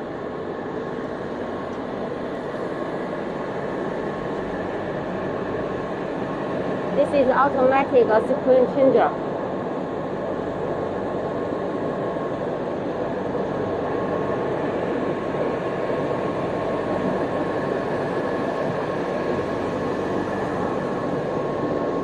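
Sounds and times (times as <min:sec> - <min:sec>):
thin constant whine: 0:00.0 - 0:22.0.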